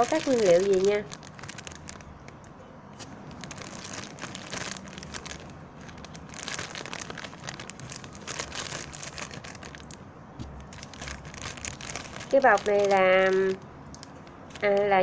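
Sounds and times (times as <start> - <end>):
plastic bag crinkling: 0.0 - 2.4, 3.0 - 15.0.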